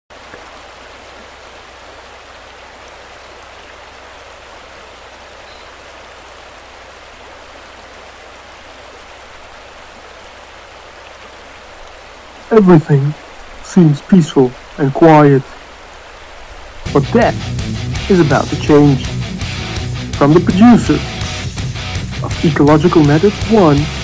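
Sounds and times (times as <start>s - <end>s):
outdoor background hiss: 0.1s - 24.0s.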